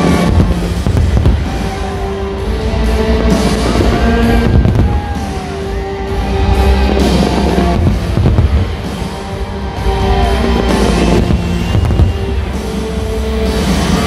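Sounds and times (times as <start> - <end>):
fireworks bursting: 0.0 - 14.0
loud music with held notes: 0.0 - 14.0.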